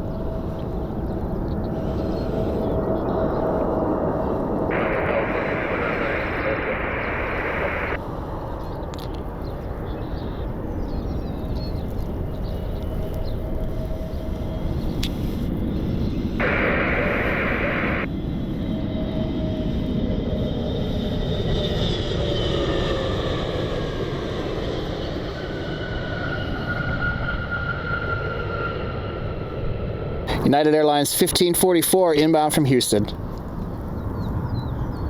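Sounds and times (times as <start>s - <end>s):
jet engines rumbling: 0.0s - 35.0s
whining jet engine tones: 0.0s - 35.0s.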